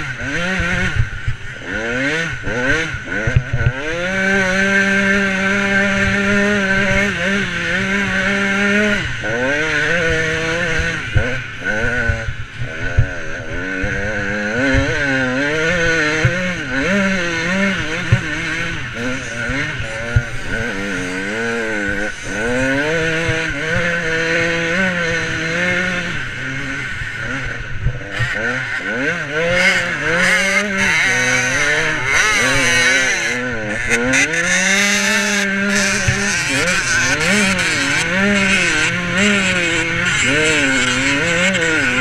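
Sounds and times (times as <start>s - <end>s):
motocross bike engine revving: 0.0s - 42.0s.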